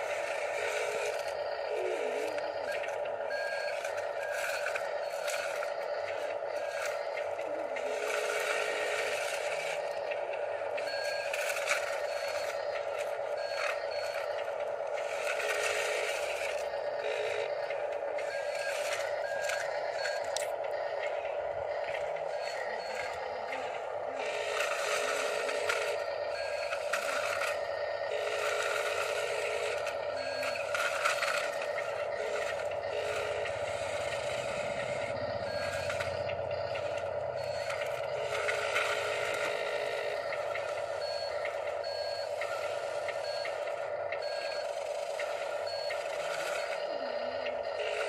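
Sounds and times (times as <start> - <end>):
electric motor whine: 0.0 - 48.0.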